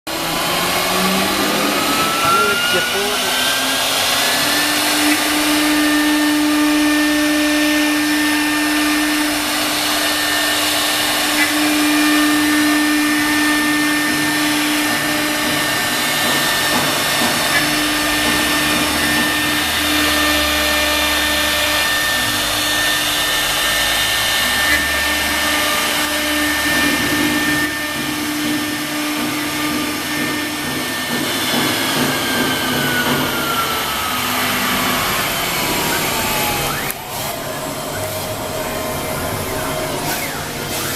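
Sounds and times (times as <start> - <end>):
router spindle whining: 0.1 - 40.9.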